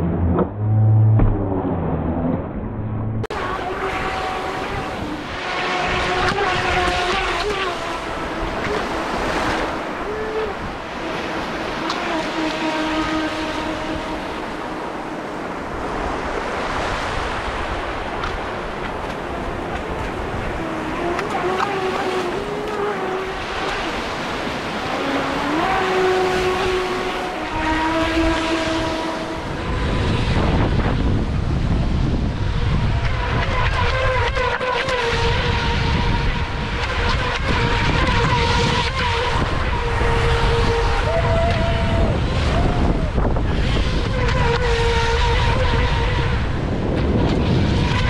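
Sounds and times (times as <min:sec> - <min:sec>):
surf: 0:00.0 - 0:48.0
wind on microphone: 0:00.0 - 0:48.0
model boat motor whine: 0:03.1 - 0:48.0.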